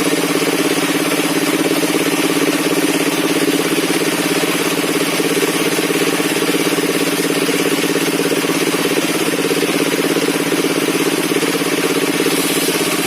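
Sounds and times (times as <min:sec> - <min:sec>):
sawmill engine pulsing: 0:00.0 - 0:13.0.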